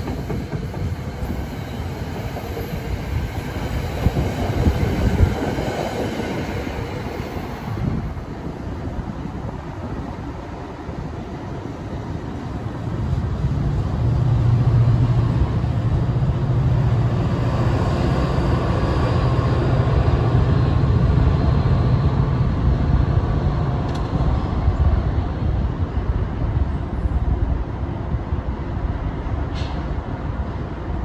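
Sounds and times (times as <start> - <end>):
locomotive engine drone: 0.0 - 29.4
train running rumble: 0.0 - 31.0.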